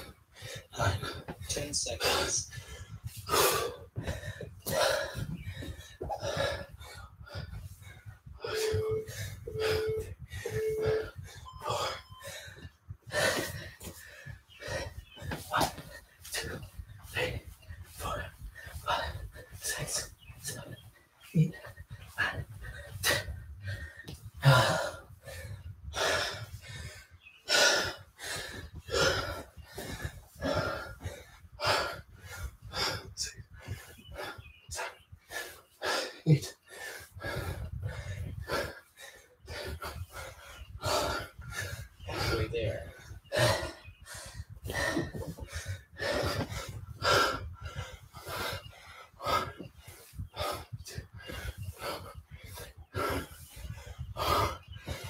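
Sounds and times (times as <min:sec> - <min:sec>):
man breathing hard: 0:00.0 - 0:55.0.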